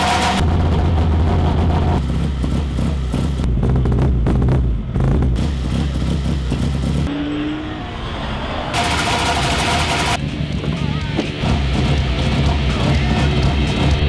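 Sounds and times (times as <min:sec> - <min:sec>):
engine clatter: 0:00.0 - 0:07.1, 0:08.7 - 0:14.0
racing car engine revving: 0:00.0 - 0:14.0.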